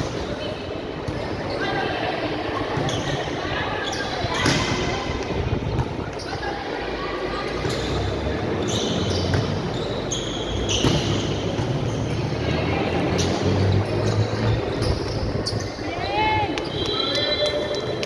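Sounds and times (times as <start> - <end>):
echoing murmur of voices: 0.0 - 18.0.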